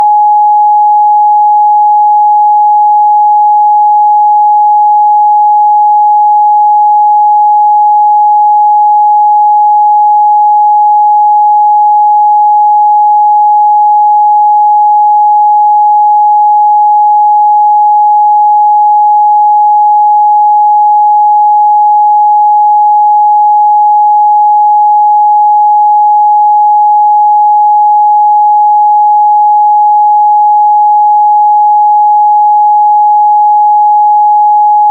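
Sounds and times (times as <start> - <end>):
sine wave test tone: 0.0 - 34.9.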